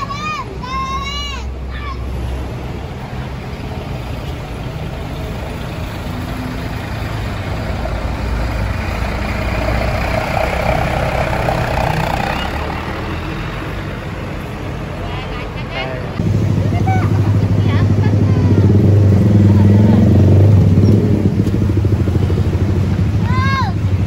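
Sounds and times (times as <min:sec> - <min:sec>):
large bus engine running: 0:00.0 - 0:24.0.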